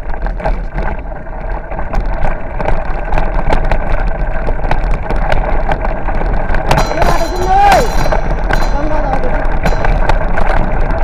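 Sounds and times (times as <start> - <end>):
bicycle rattling on rough road: 0.0 - 11.0
wind buffeting microphone: 0.0 - 11.0.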